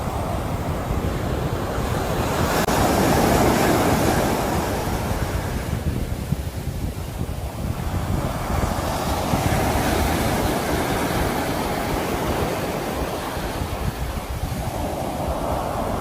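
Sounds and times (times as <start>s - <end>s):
sea waves surf: 0.0s - 16.0s
wind on microphone: 0.0s - 16.0s.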